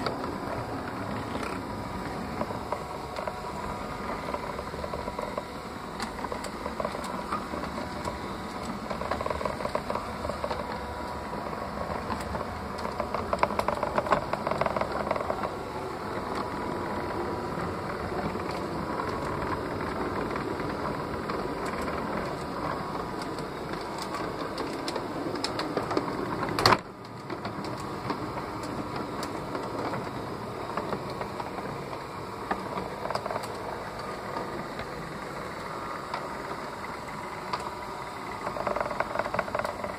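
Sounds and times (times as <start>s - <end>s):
wheels clicking on track: 0.0s - 39.9s.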